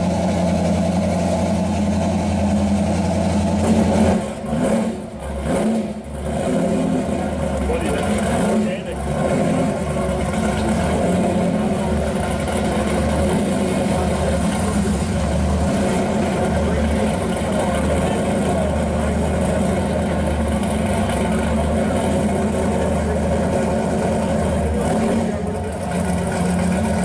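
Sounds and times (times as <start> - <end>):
hot rod engines rumbling: 0.0 - 27.0
hot rod passing by: 0.0 - 27.0.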